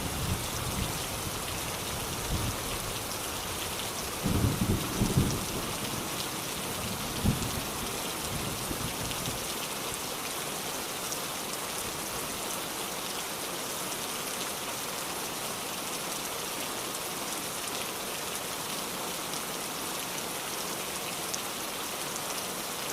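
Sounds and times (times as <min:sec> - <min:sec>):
heavy rain hiss: 0:00.0 - 0:22.9.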